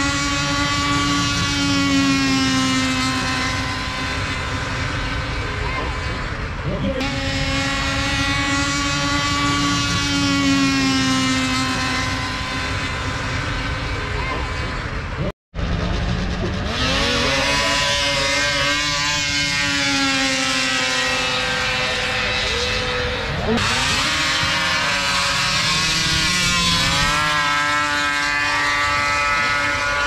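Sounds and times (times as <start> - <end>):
snowmobile engines at full throttle: 0.0 - 30.0.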